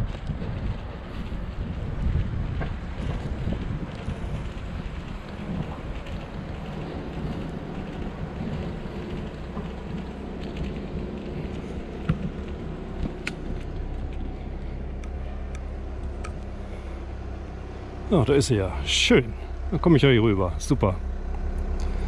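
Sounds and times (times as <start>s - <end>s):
wind on microphone: 0.0s - 19.8s
bicycle rolling over asphalt: 0.0s - 22.0s.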